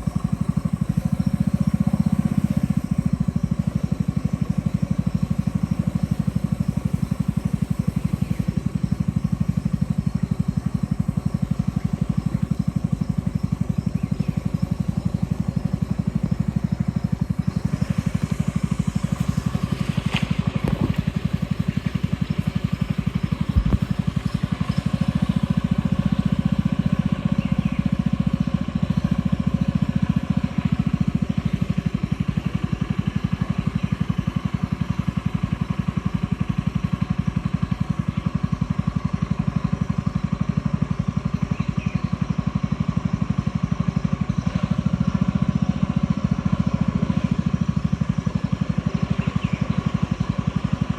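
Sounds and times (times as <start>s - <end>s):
boat motor droning: 0.0s - 50.9s.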